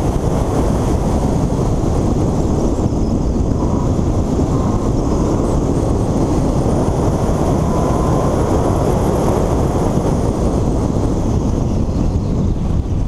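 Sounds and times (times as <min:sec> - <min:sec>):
engine and tyre rumble: 0:00.0 - 0:13.0
wind buffeting on microphone: 0:00.0 - 0:13.0.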